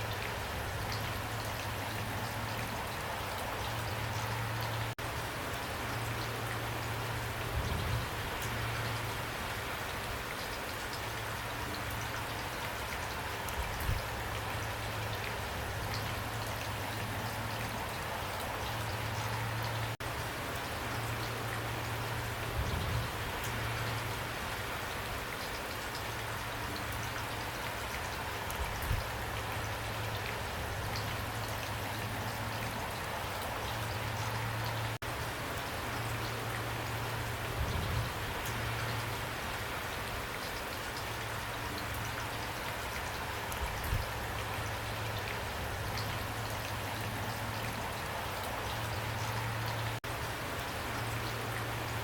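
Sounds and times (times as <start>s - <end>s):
pouring rain patter: 0.0s - 52.0s.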